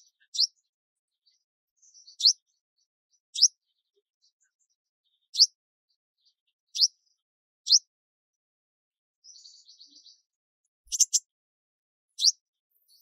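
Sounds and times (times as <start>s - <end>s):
songbird chirping: 0.0s - 5.6s, 6.2s - 8.0s, 9.2s - 11.4s, 12.1s - 13.0s
faint soft bird notes: 0.0s - 7.9s, 9.2s - 11.3s, 12.2s - 13.0s.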